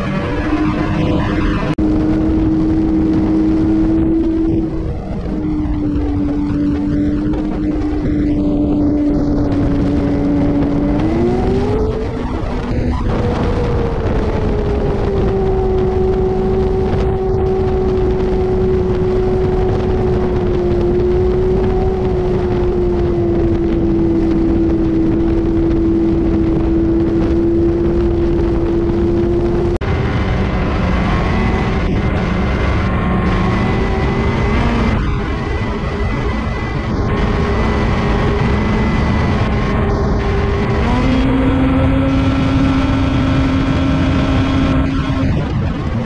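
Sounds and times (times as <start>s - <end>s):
engine with high whine: 0.0s - 46.0s
snowmobile engine running: 0.0s - 46.0s.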